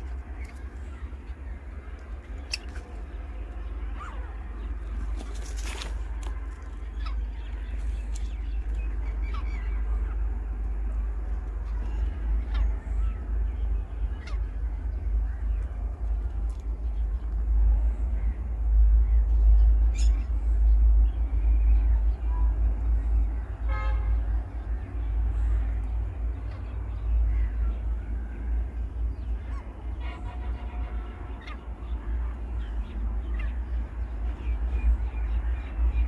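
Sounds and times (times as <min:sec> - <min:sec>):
wild birds calling: 0:00.0 - 0:17.3, 0:17.9 - 0:36.0.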